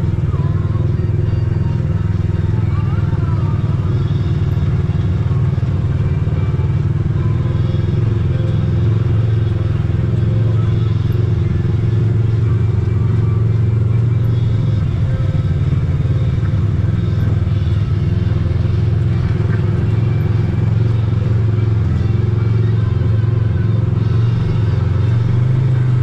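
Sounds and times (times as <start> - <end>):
utility vehicle engine droning: 0.0 - 26.0.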